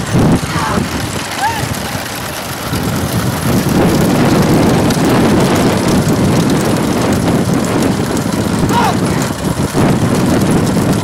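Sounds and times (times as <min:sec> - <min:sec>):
vehicles rumbling: 0:00.0 - 0:11.0.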